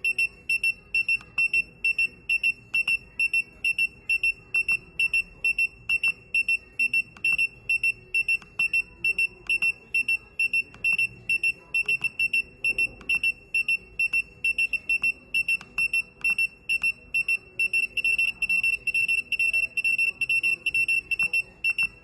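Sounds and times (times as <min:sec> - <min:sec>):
short high-pitched beeps: 0:00.0 - 0:22.0.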